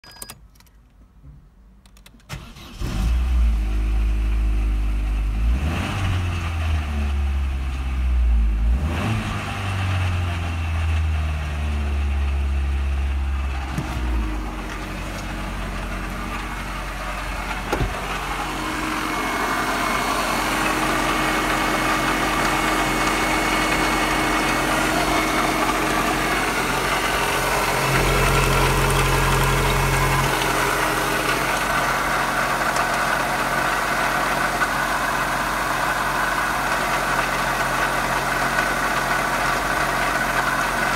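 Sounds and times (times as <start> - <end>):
car engine starting and idling: 0.1 - 40.9.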